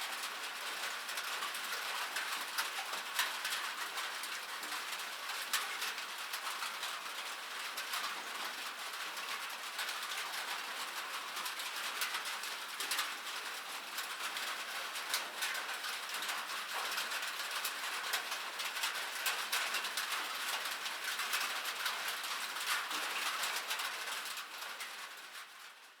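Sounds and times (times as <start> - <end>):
rain pattering on metal: 0.0 - 26.0.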